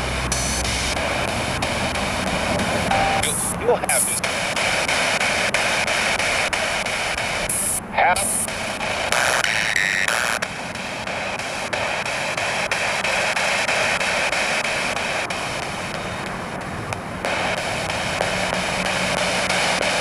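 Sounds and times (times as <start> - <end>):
radio static hiss: 0.0 - 20.0
rapid clicks: 0.0 - 20.0
snatches of radio broadcast: 0.0 - 20.0.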